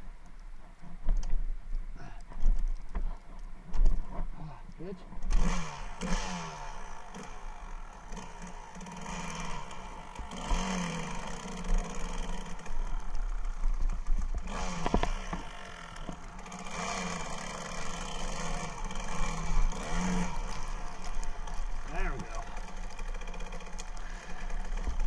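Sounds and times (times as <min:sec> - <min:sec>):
muffled motorcycle engine revving: 0:03.8 - 0:25.0.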